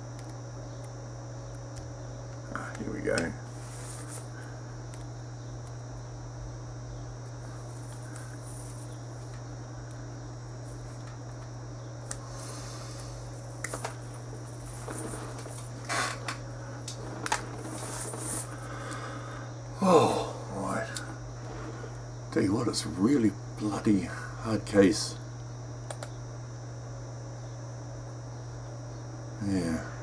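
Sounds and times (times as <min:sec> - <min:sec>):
thin high whine: 0:00.0 - 0:26.0
steady low hum: 0:00.0 - 0:30.0.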